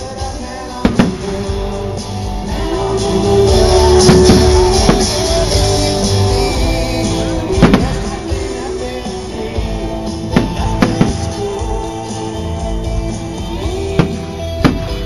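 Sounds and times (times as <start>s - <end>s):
fireworks bursting: 0.0s - 15.0s
rock music with guitar and singing: 0.0s - 15.0s.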